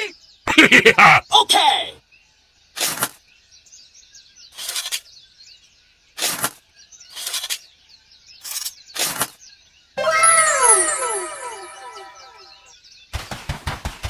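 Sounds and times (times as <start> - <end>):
faint birdsong chirping: 0.0 - 13.1.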